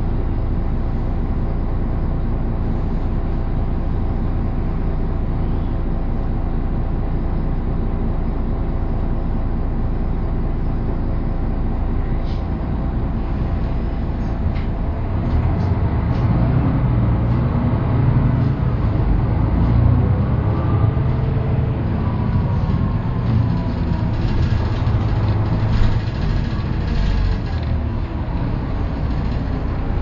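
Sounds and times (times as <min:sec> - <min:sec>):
bus diesel engine droning: 0:00.0 - 0:30.0
drivetrain whine: 0:00.0 - 0:30.0.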